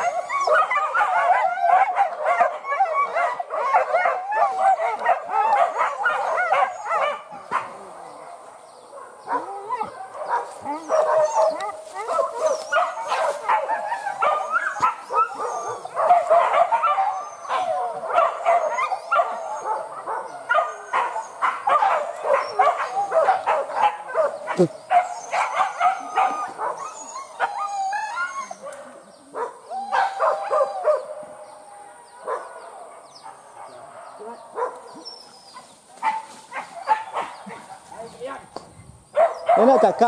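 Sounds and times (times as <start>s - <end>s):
dogs barking: 0.0s - 38.2s, 39.1s - 40.0s.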